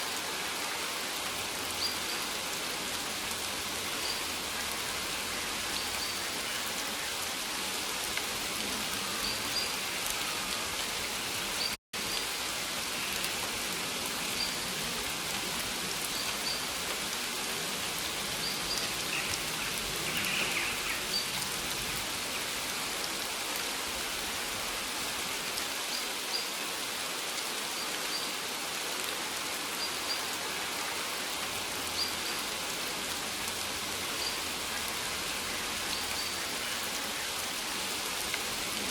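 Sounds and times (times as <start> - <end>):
rain falling on forest: 0.0 - 38.9.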